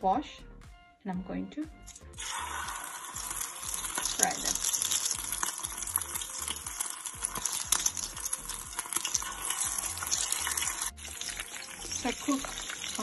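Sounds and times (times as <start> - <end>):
chicken sizzling in hot oil: 1.9 - 13.0.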